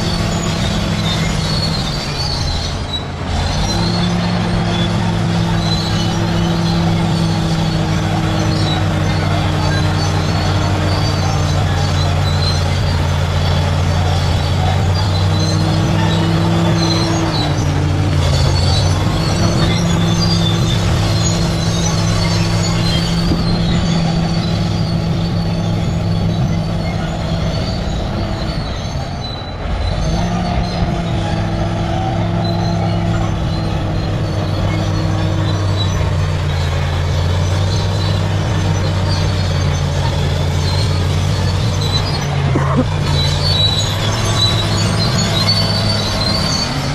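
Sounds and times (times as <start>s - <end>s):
bulldozer diesel engine under load: 0.0s - 46.9s
steel tracks squealing and clanking: 0.0s - 46.9s.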